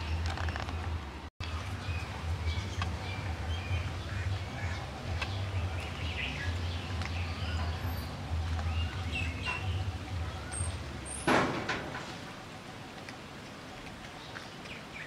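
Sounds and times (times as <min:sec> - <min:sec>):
steady low hum: 0:00.0 - 0:14.7
birds chirping: 0:00.0 - 0:15.0.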